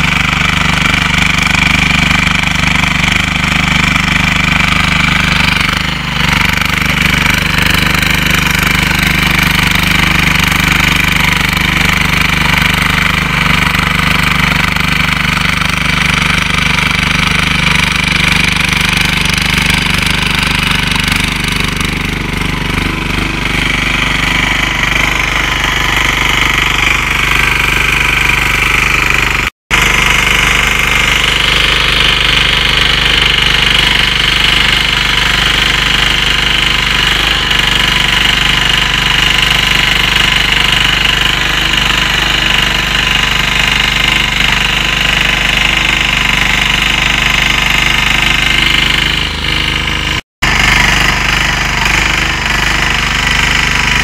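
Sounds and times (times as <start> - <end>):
tiller engine running: 0.0 - 54.0.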